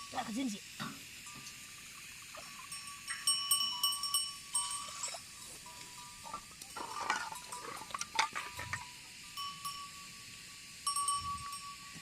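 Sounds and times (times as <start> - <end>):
sheep bells clinking: 1.2 - 1.8, 2.4 - 12.0.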